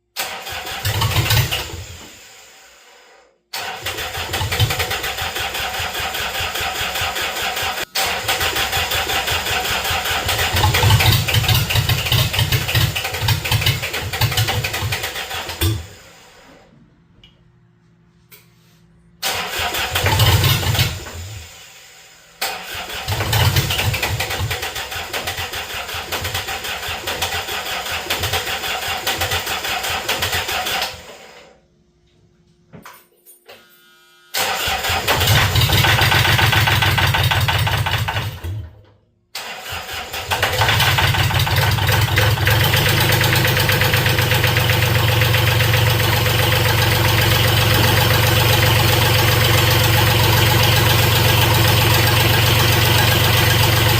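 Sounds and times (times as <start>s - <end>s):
diesel engine cranking: 0.2s - 2.0s, 3.6s - 16.0s, 19.2s - 21.6s, 22.4s - 31.1s, 34.4s - 38.8s, 39.4s - 53.9s.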